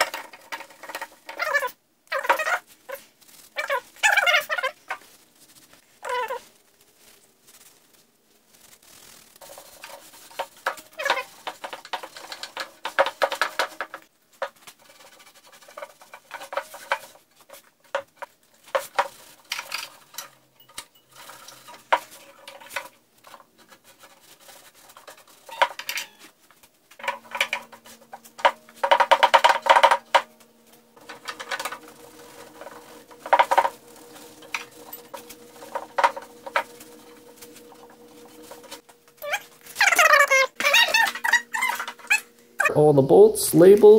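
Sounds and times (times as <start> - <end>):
cloth squeaking on metal: 0.7 - 5.1, 6.0 - 6.5, 8.9 - 14.1, 14.8 - 42.7.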